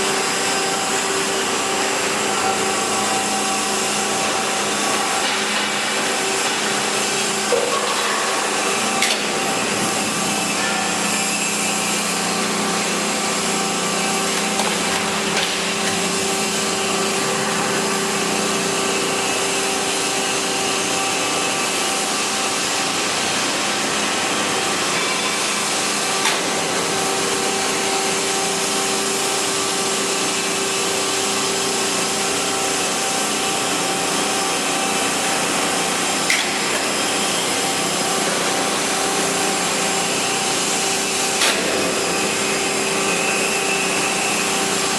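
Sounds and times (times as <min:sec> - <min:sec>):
bending machine humming and hissing: 0:00.0 - 0:44.9.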